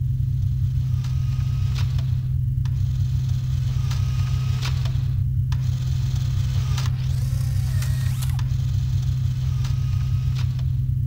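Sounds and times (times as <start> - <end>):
deep droning bass: 0.0 - 11.0.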